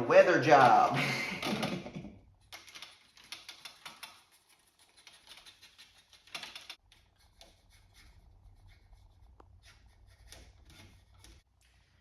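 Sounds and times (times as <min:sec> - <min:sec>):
paintbrush scratching and dabbing: 0:02.3 - 0:12.0.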